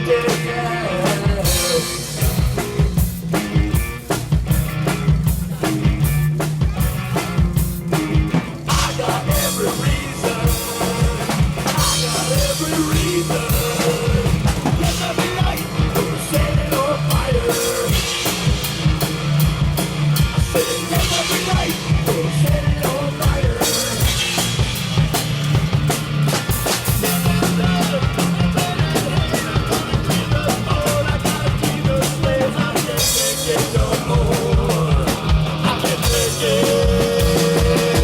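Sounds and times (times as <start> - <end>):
bass and guitar: 0.0 - 38.0
pounding drum kit: 0.0 - 38.0.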